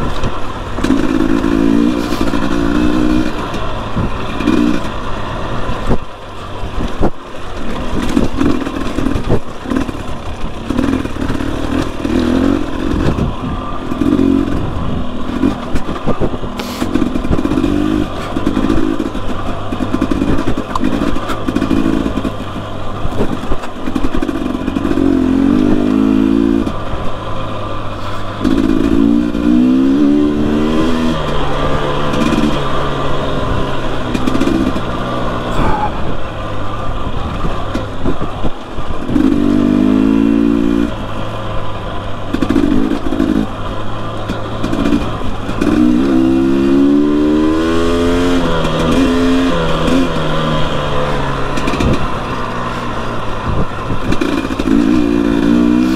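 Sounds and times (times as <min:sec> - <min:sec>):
knocks and clatter: 0:00.0 - 0:05.0, 0:05.7 - 0:26.8, 0:28.1 - 0:35.9, 0:42.2 - 0:43.6, 0:44.2 - 0:50.3, 0:51.0 - 0:55.9
dirt bike engine revving: 0:00.0 - 0:55.9.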